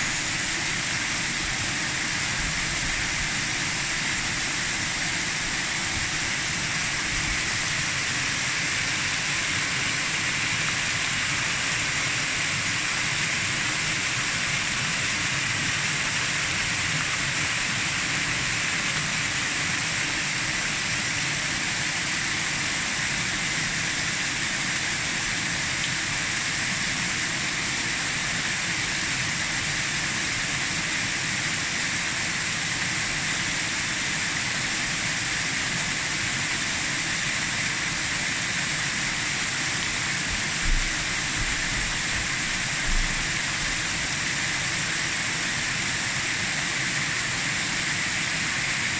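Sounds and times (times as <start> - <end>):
waterfall splashing: 0.0 - 48.9.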